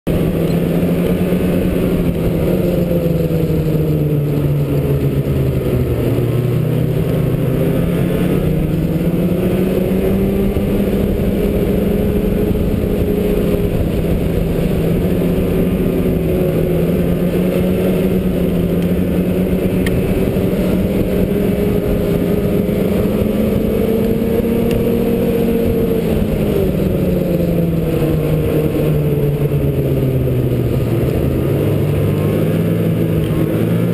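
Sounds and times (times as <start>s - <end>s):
snowmobile engine running: 0.1s - 33.9s.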